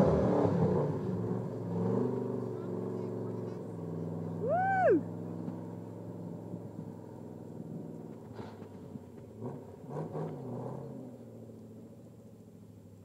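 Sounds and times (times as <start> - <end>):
truck engine rumbling under load: 0.0 - 13.0.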